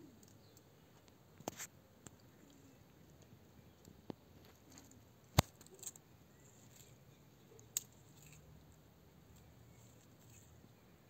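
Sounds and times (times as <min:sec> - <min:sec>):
faint steady background: 0:00.0 - 0:11.0.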